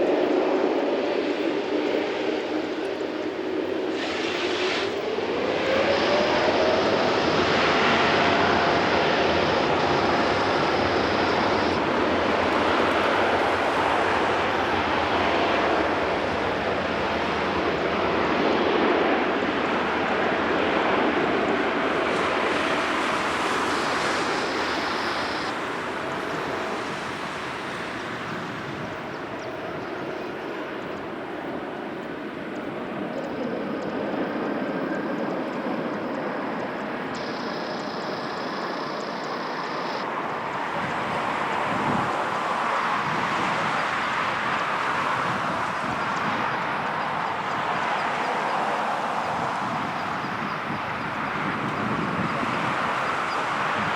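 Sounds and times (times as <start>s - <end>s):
jet airliner engine roar: 0.0s - 53.9s.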